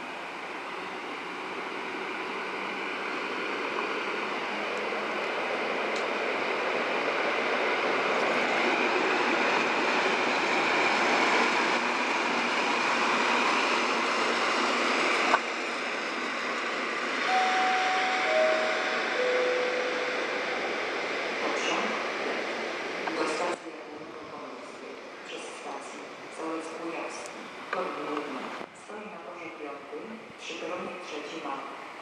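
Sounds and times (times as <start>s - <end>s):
electric train rolling past: 0.0s - 32.0s.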